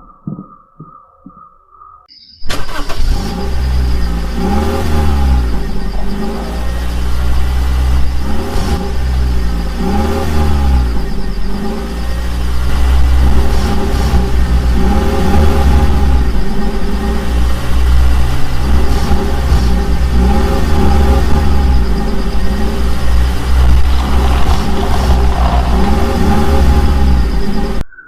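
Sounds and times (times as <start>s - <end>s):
vehicle engine revving: 2.5s - 27.8s
high whine: 3.2s - 28.0s.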